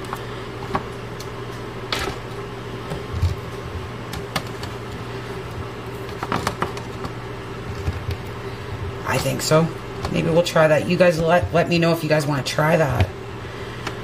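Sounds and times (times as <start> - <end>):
dehydrator fan humming: 0.0 - 14.0.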